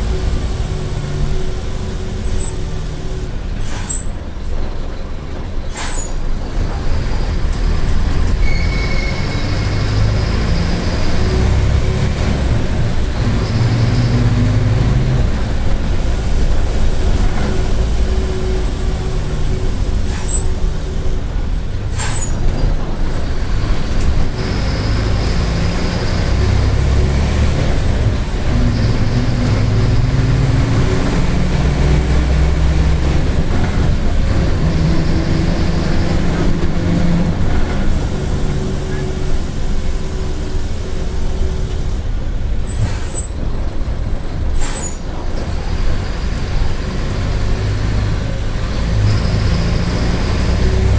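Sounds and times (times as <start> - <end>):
bus engine shifting gears: 0.0 - 50.9.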